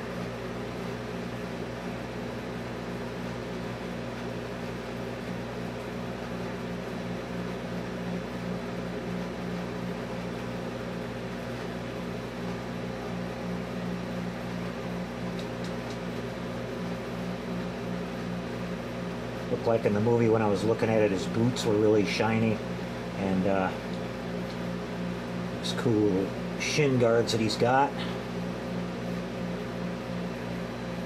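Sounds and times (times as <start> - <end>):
electric fan humming: 0.0 - 31.0.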